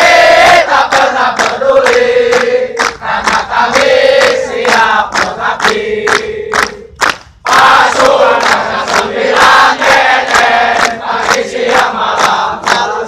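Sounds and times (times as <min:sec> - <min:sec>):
voices chanting in unison: 0:00.0 - 0:06.9, 0:07.5 - 0:13.0.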